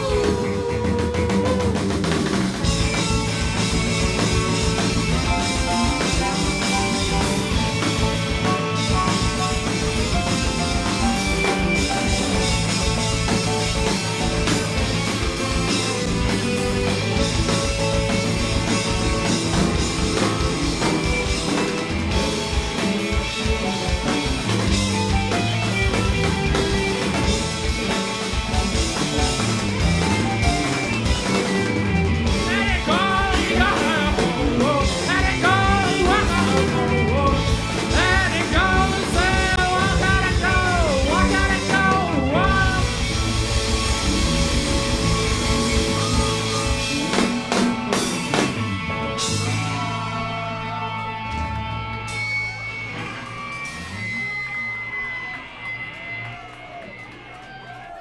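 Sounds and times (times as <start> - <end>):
drum kit beat: 0.0 - 54.0
bass guitar: 0.0 - 58.0
electric guitar: 0.0 - 58.0
rock band playing instrumental: 0.0 - 58.0.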